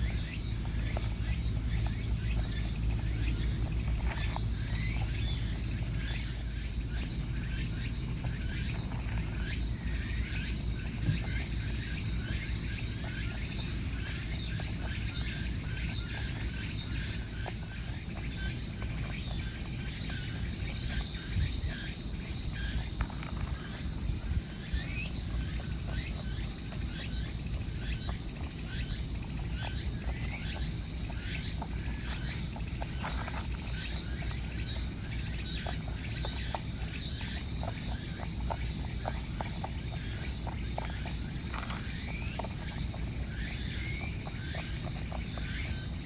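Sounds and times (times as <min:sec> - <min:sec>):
high-pitched insect chorus: 0:00.0 - 0:46.0.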